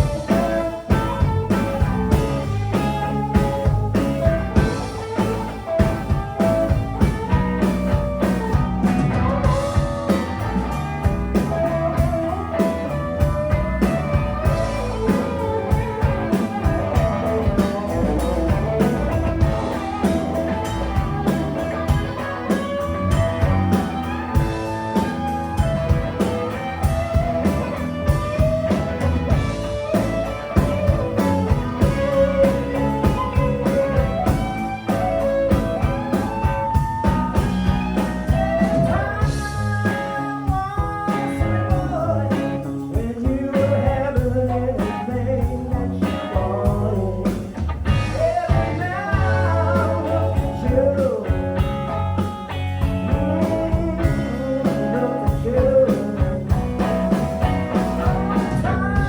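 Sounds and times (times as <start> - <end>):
bass guitar: 0.0 - 59.0
drum kit: 0.0 - 59.0
guitar melody: 0.0 - 59.0.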